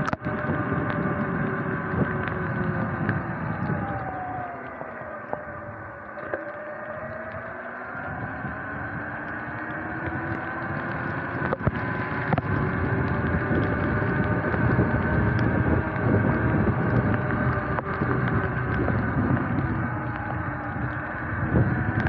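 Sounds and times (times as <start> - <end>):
electric motorbike drivetrain whining: 0.0 - 22.0
wind buffeting: 0.0 - 22.0.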